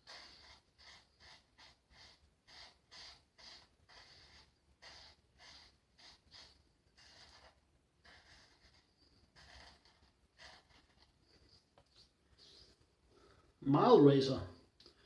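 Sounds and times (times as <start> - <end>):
razor scraping stubble: 0.0 - 12.8.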